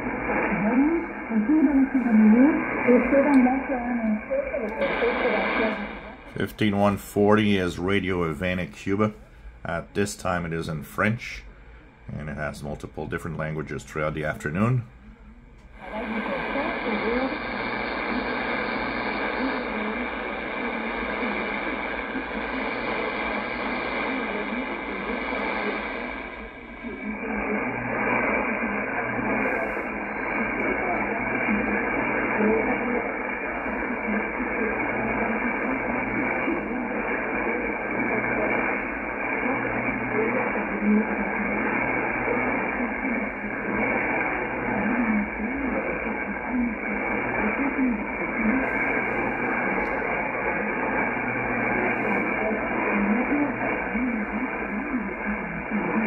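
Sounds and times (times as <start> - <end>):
weak radio voice: 0.0 - 11.5, 12.1 - 14.9, 15.8 - 56.0
radio hiss and static: 0.0 - 56.0.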